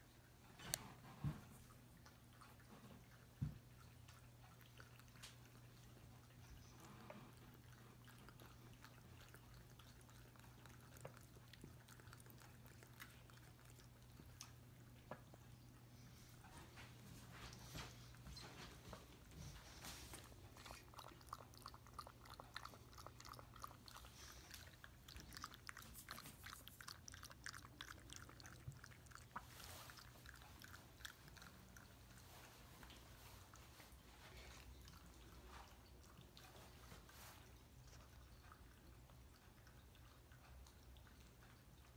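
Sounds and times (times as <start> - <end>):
cat lapping water: 0.2 - 41.9.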